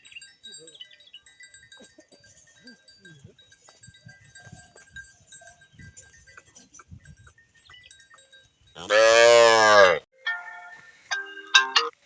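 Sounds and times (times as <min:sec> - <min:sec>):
livestock bells clinking: 0:00.0 - 0:12.0.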